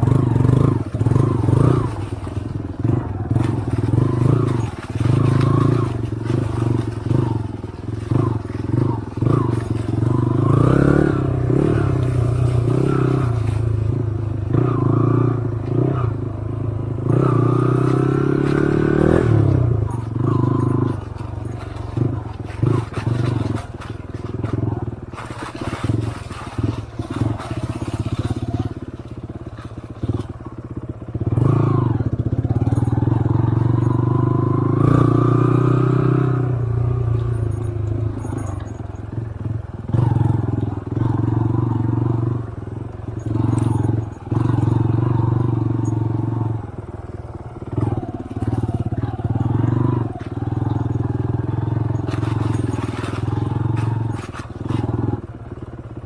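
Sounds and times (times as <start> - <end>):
knocks and scrapes on rough trail: 0.0 - 56.0
motorcycle engine running: 0.0 - 56.0.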